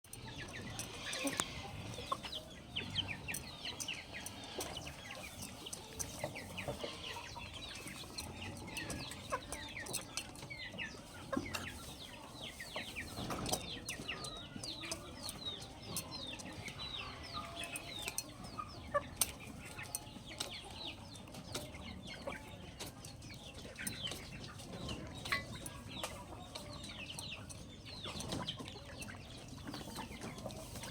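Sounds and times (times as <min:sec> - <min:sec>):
chicks peeping: 0:00.1 - 0:30.9
hens clucking: 0:00.1 - 0:30.9.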